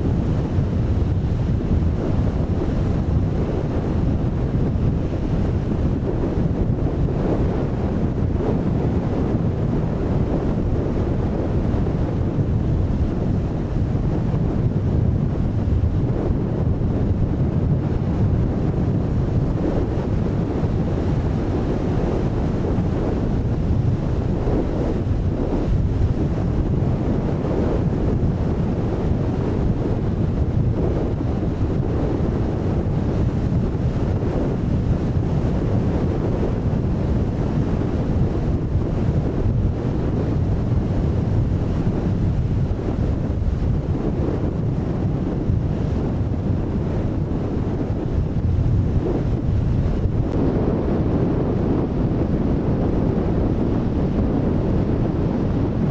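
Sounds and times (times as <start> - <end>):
wind blowing across microphone: 0.0 - 55.9.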